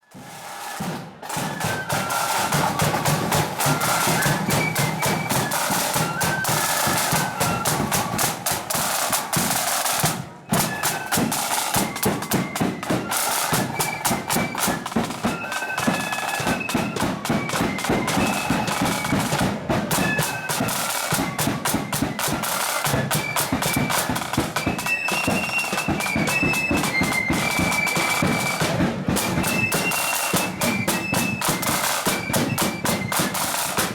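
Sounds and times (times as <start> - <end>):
marching band playing: 0.1 - 33.9.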